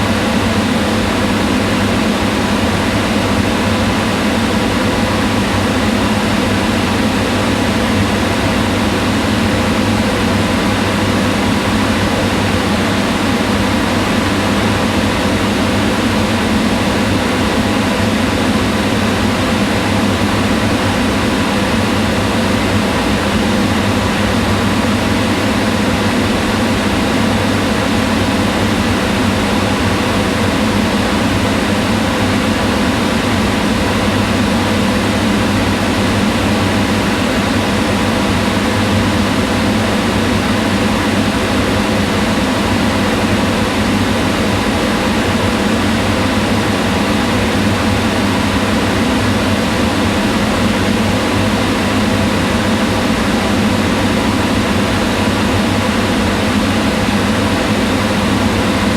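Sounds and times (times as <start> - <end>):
range hood fan running: 0.0 - 58.9.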